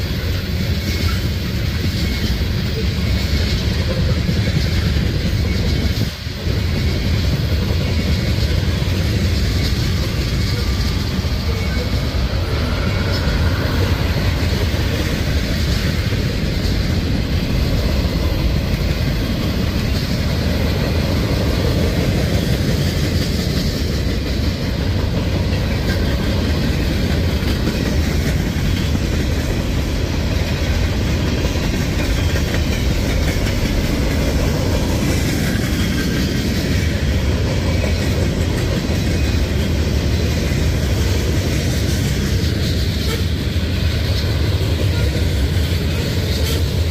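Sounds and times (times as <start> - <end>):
steel wheels rolling on rails: 0.0 - 46.9.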